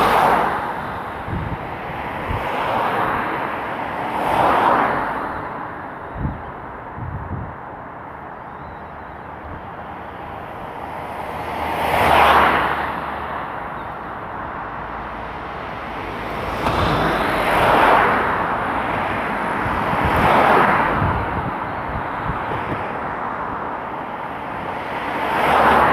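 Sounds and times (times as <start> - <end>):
cars driving past: 0.0 - 25.9
traffic background hum: 0.0 - 25.9.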